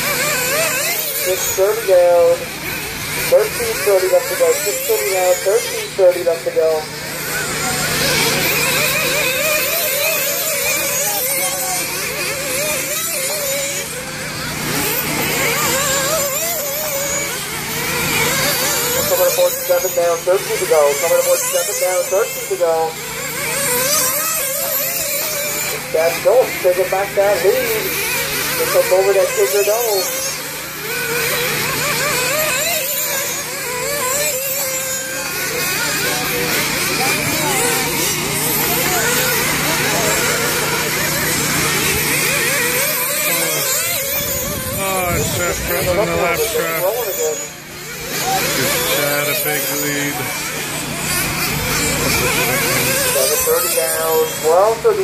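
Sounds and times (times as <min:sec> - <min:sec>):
small model car engines racing: 0:00.0 - 0:55.0.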